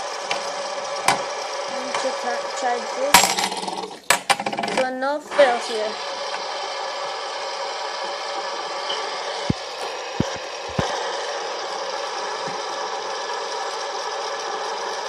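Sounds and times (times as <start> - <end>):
fidget spinner bearing whirring: 0.0 - 15.0.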